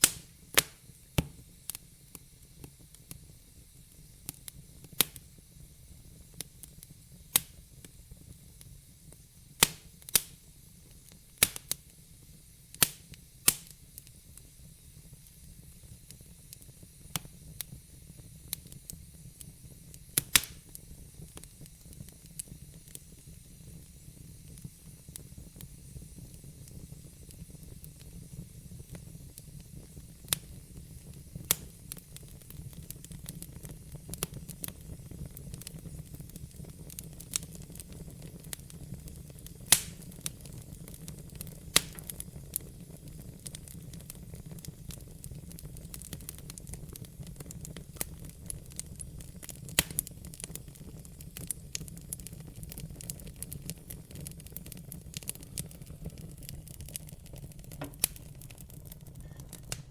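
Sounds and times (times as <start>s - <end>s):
fire popping and crackling: 0.0s - 59.9s
fire rumbling and hissing: 0.0s - 59.9s.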